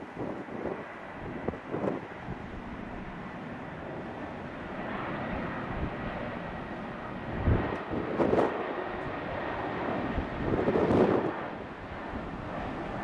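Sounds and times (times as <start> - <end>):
distant jet engines rushing: 0.0 - 13.0
wind gusts on microphone: 0.0 - 13.0.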